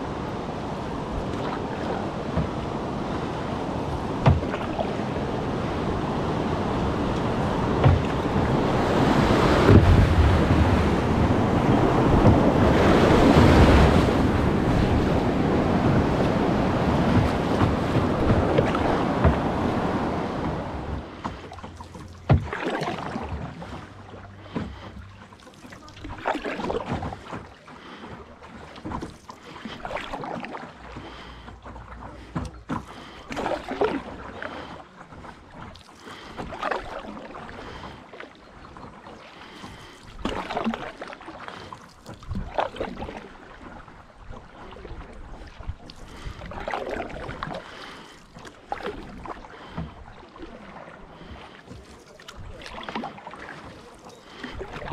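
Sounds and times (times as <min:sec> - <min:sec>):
paddle splashing in water: 0:00.0 - 0:54.9.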